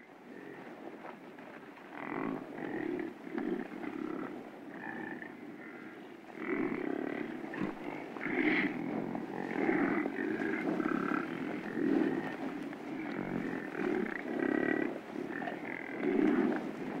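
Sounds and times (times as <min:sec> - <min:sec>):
wildebeest grunting calls: 0:01.9 - 0:17.0.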